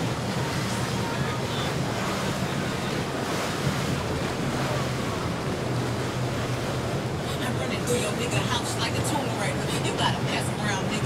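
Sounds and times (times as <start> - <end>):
boat engines humming: 0.0 - 11.0
water wash: 0.0 - 11.0
wind buffeting microphone: 0.0 - 11.0.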